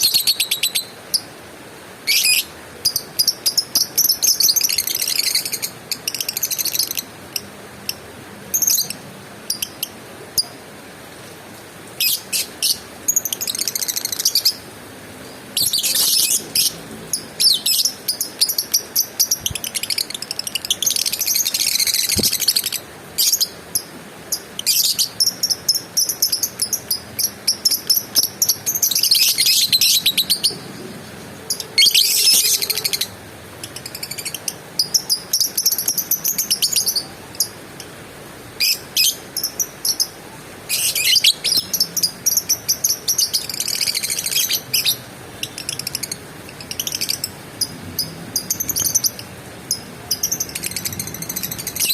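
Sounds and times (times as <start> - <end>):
lovebird chattering: 2.1 - 10.6, 15.2 - 37.6, 38.6 - 51.9.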